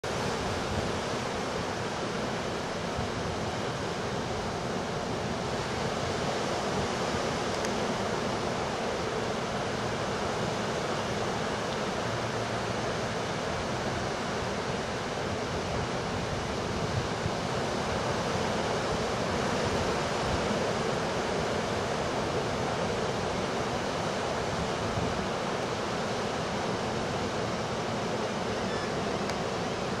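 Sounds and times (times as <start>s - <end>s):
ocean surf waves breaking: 0.0s - 30.0s.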